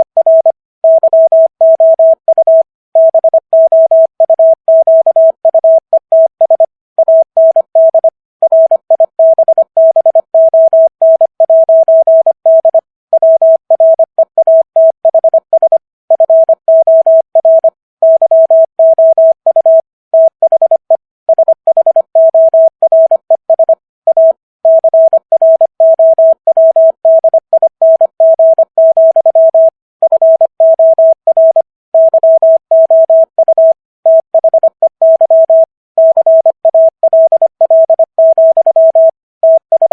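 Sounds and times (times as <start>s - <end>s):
morse code tone: 0.0s - 39.9s.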